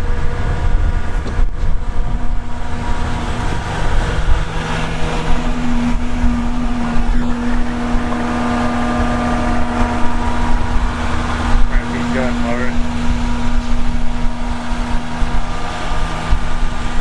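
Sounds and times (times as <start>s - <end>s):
hydraulic pump and engine hum: 0.0s - 17.0s.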